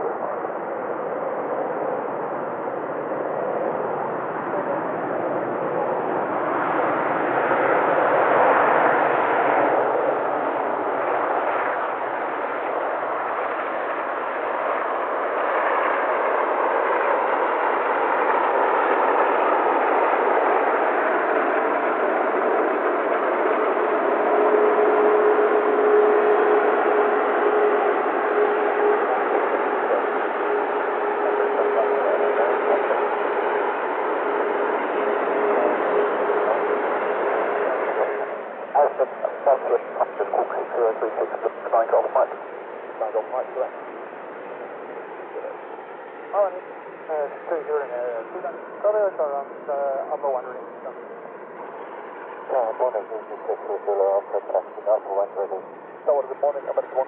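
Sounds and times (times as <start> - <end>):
jet engines roaring: 0.0 - 57.0
steady whine: 0.0 - 57.0.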